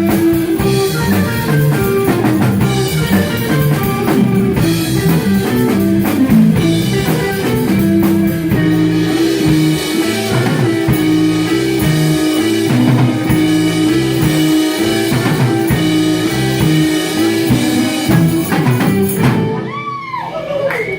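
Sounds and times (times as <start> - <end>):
rock band playing guitar and drums: 0.0 - 20.6.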